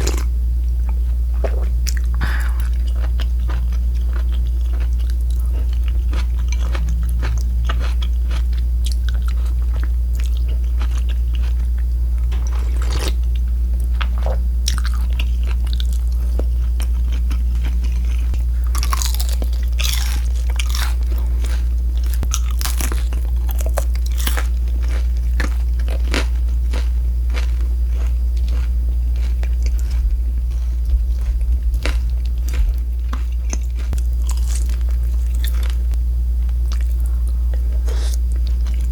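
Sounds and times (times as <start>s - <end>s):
crunching and chewing crispy food: 0.0s - 38.9s
low hum: 0.0s - 38.9s.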